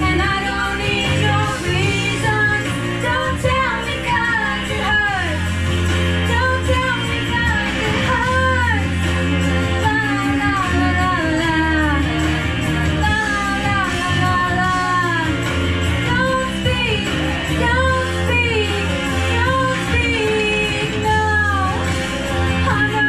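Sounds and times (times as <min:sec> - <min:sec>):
backing track with bass: 0:00.0 - 0:23.0
woman singing karaoke: 0:00.0 - 0:23.0.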